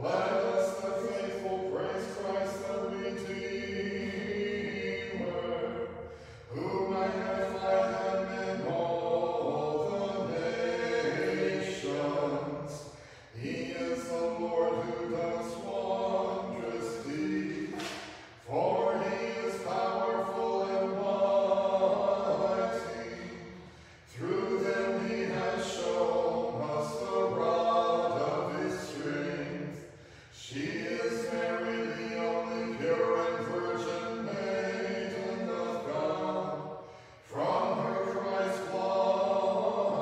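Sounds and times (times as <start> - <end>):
choir chanting a cappella: 0.0 - 40.0.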